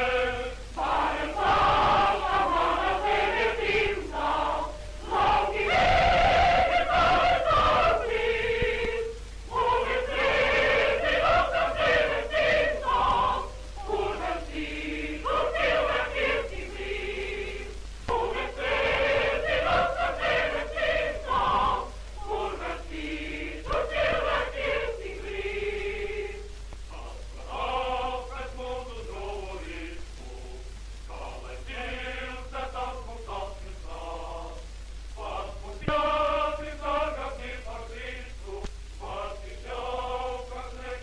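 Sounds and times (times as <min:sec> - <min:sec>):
choir singing: 0:00.0 - 0:34.6, 0:35.2 - 0:41.0
steady low hum: 0:00.0 - 0:41.0.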